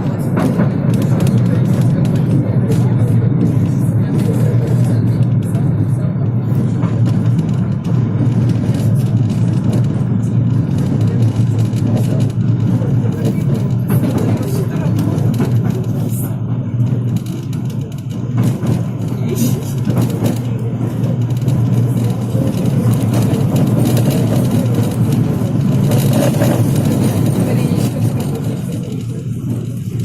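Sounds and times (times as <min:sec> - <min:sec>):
tram rumbling: 0:00.0 - 0:30.0
wheels knocking on track: 0:00.0 - 0:30.0.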